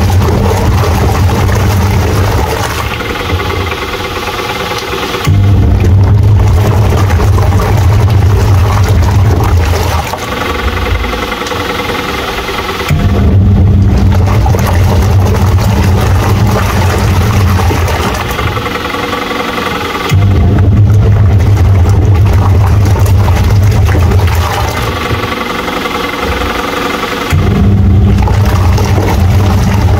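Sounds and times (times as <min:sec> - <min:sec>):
washing machine motor humming: 0:00.0 - 0:29.9.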